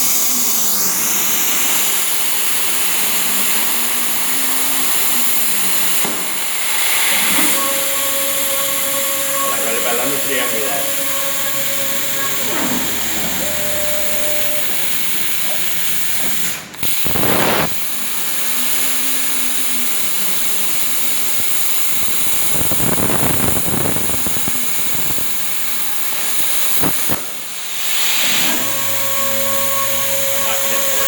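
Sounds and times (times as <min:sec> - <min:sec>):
plasma cutter hissing: 0:00.0 - 0:31.0.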